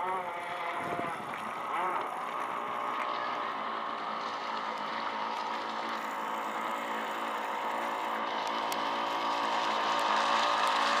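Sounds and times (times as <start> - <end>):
model boat engine running: 0.0 - 11.0.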